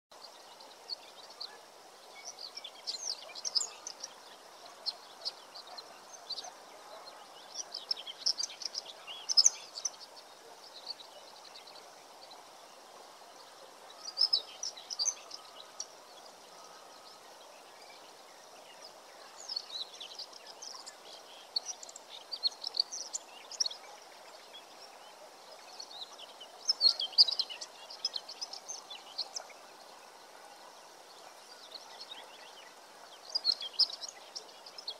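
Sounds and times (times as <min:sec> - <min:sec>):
faint outdoor background hum: 0:00.1 - 0:34.9
songbirds chirping and trilling: 0:00.1 - 0:34.9.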